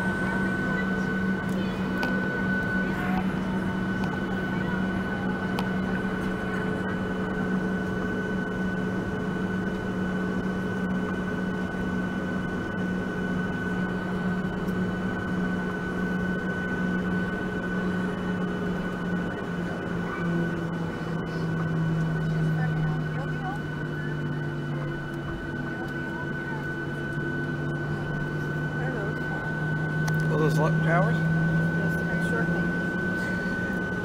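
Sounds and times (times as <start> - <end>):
jet engines droning: 0.0 - 34.0
steady engine whine: 0.0 - 34.0.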